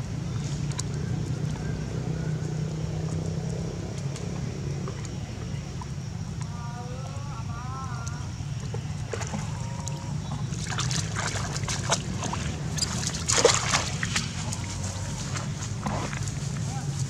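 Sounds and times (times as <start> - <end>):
splashing in shallow water: 0.0 - 17.0
steady low hum: 0.0 - 17.0.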